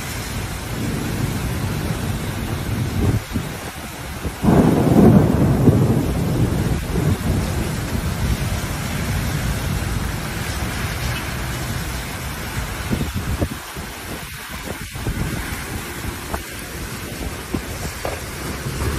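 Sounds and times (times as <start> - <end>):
car tyres swishing through water: 0.0 - 18.9
heavy rain: 0.0 - 18.9
thunder rumbling: 0.0 - 18.9.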